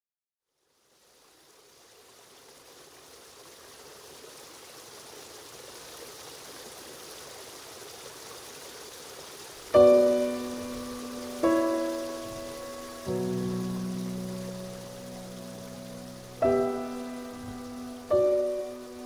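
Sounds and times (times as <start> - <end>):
rushing water: 0.6 - 19.0.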